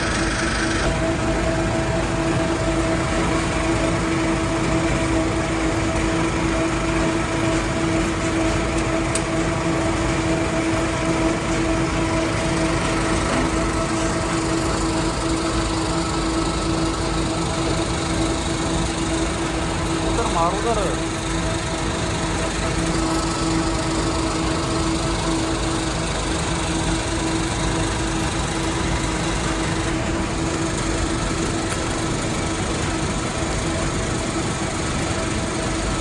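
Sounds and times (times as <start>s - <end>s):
plant machinery droning: 0.0s - 36.0s.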